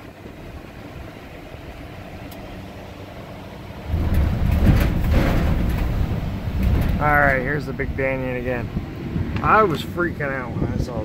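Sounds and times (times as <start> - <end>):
vehicle rumble from inside cab: 0.0 - 11.0.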